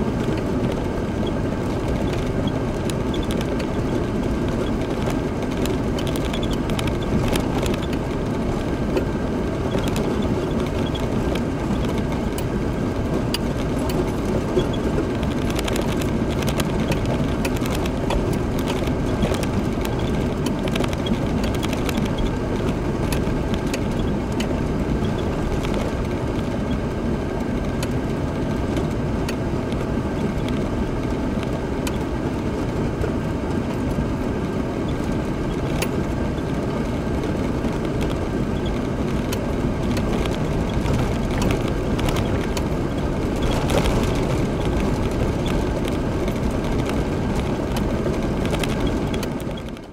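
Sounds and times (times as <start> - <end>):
vehicle engine and tyre rumble: 0.0 - 49.9.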